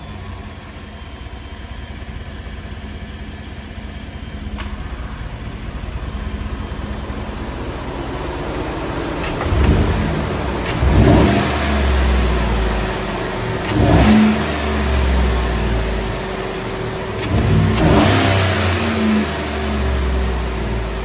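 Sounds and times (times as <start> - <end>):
truck engine idling and revving: 0.0 - 21.0.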